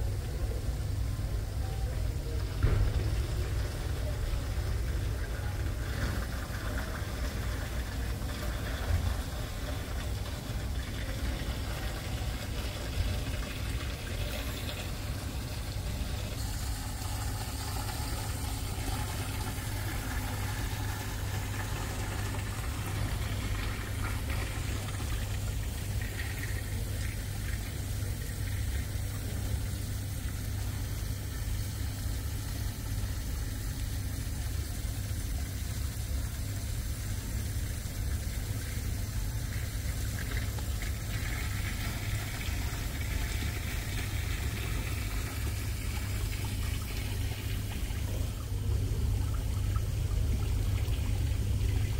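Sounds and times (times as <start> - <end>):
steady low hum: 0.0 - 51.9
water trickling: 0.0 - 51.9.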